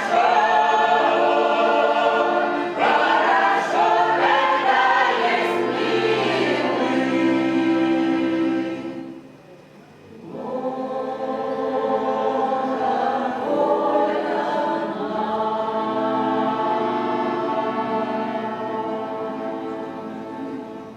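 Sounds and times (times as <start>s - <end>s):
choir singing held chords: 0.0s - 9.4s, 10.0s - 20.9s.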